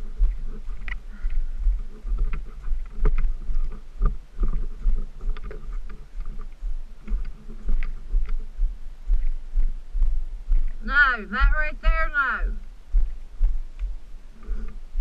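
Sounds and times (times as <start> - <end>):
atv engine rumble: 0.0 - 15.0.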